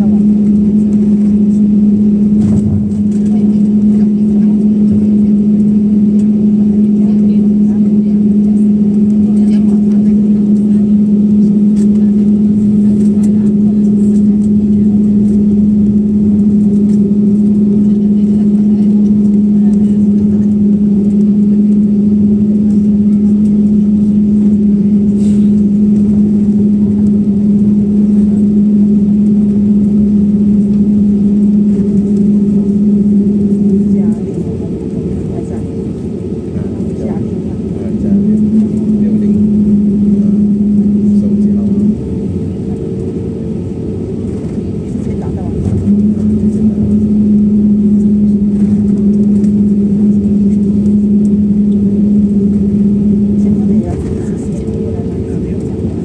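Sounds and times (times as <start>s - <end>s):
airliner rumbling: 0.0s - 56.0s
low vehicle drone: 0.0s - 56.0s
steady hum: 0.0s - 56.0s.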